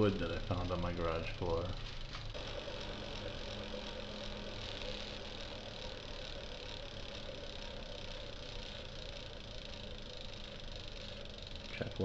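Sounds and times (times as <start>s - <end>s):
bike wheel spinning hum: 0.0s - 12.0s.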